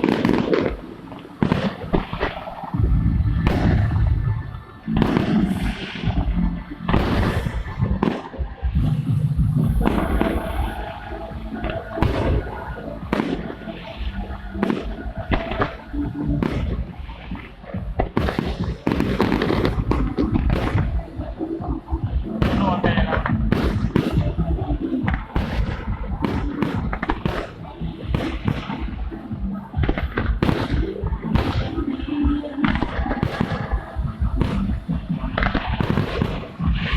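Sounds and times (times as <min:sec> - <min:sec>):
fireworks bangs: 0:00.0 - 0:29.2, 0:29.8 - 0:36.9
continuous noisy background: 0:00.0 - 0:36.9.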